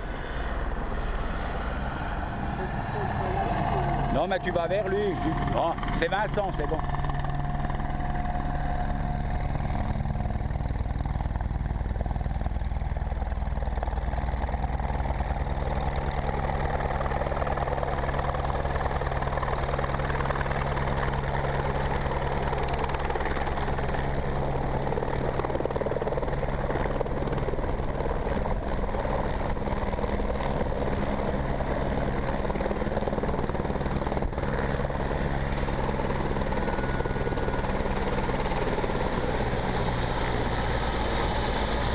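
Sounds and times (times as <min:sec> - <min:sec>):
helicopter rotor beating: 0:00.0 - 0:41.9
high turbine whine: 0:00.0 - 0:41.9.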